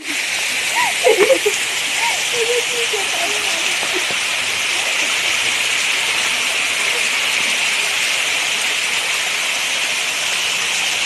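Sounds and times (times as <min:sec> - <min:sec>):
forest ambience hiss: 0:00.0 - 0:11.0.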